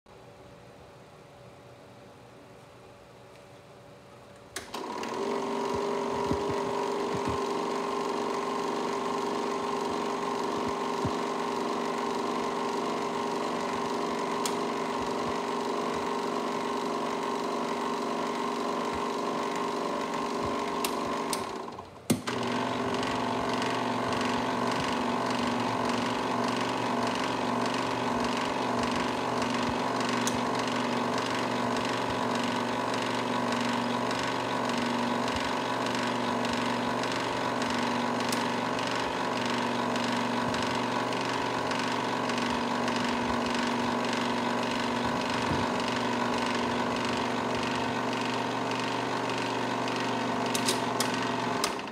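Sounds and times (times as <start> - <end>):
film projector whirring: 4.6 - 51.9.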